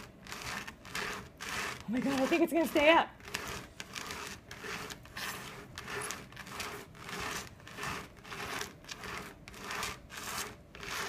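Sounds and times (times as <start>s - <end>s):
plastic tubs scraping on tabletop: 0.0s - 11.0s.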